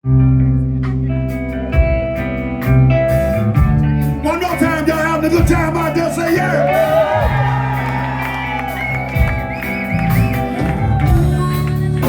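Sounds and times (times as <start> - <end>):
electric blues band playing: 0.0 - 12.0
bending guitar lead line: 0.1 - 12.0.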